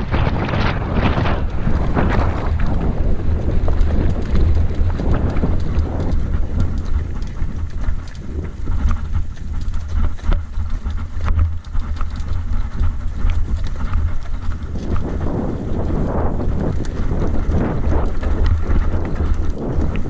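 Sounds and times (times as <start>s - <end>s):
bike rattling on rocky track: 0.0s - 20.0s
wind buffeting microphone: 0.0s - 20.0s.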